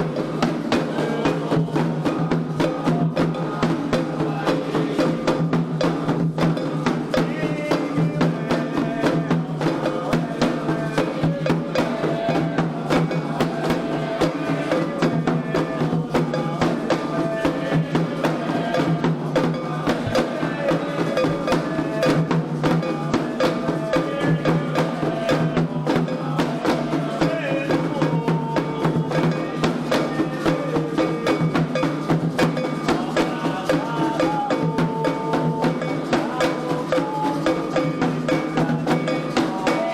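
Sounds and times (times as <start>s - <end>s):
hand drums and percussion: 0.0s - 39.9s
voices singing a chant: 0.0s - 39.9s.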